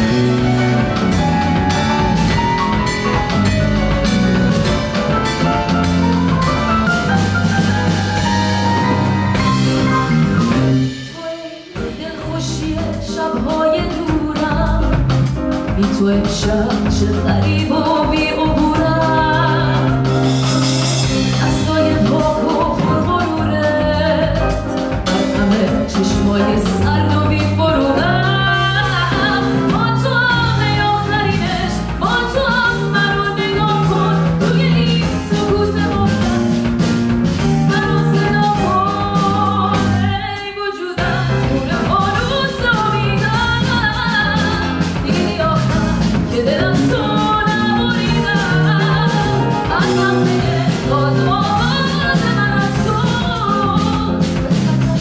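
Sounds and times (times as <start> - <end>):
live band music: 0.0 - 55.0
woman singing: 10.8 - 55.0.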